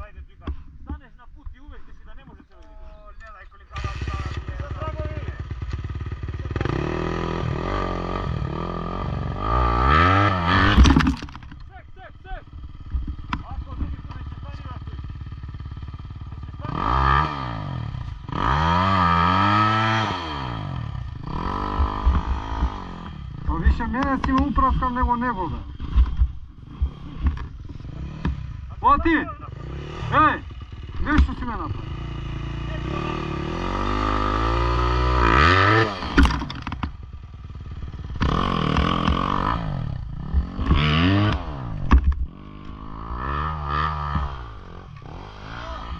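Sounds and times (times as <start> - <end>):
dirt bike engines idling: 0.0 - 45.9
dirt bike engine revving: 3.6 - 45.9.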